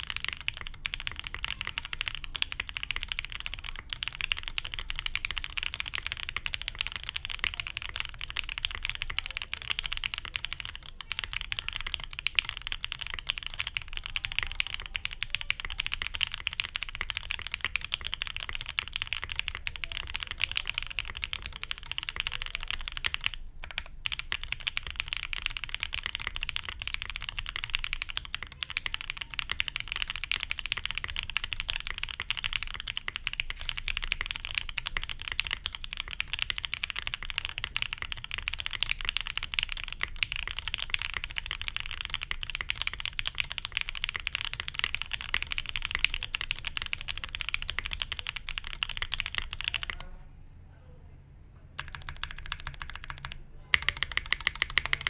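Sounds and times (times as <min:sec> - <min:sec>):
fast mechanical keyboard typing: 0:00.0 - 0:50.0, 0:51.8 - 0:55.0.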